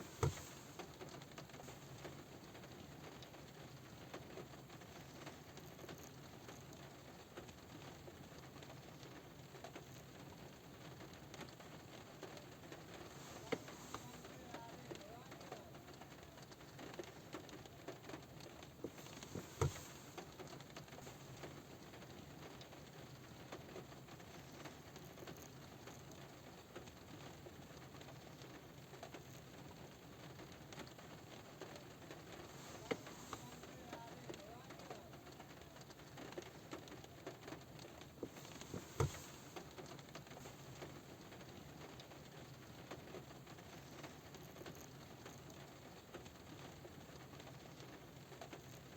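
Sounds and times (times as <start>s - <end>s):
rain tapping on a car roof: 0.0s - 48.9s.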